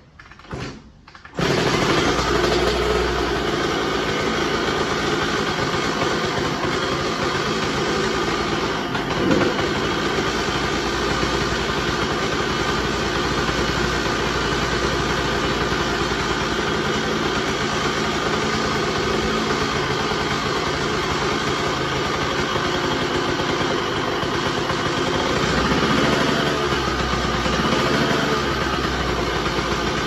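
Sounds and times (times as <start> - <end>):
engine revving: 1.4 - 30.0
motorcycle engine idling: 1.4 - 30.0.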